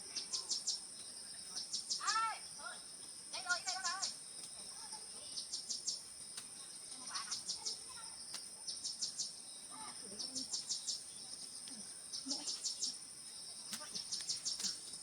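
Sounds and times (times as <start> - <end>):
insect chirp pulses: 0.0 - 15.0.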